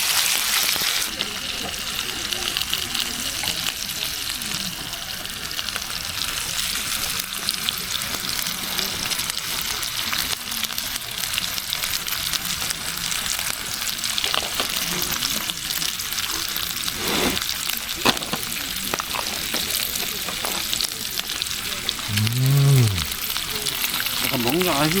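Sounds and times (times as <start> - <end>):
meat sizzling: 0.0 - 25.0.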